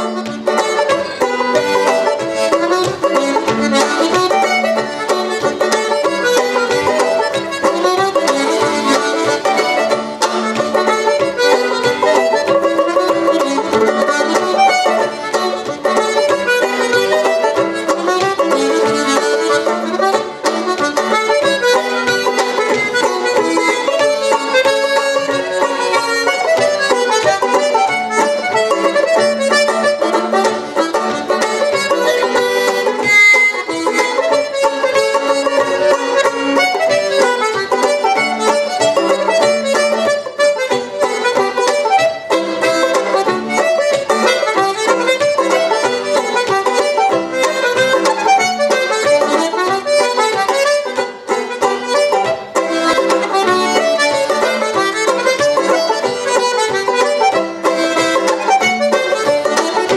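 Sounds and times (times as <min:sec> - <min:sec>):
banjo: 0:00.0 - 0:59.9
button accordion: 0:00.0 - 0:59.9.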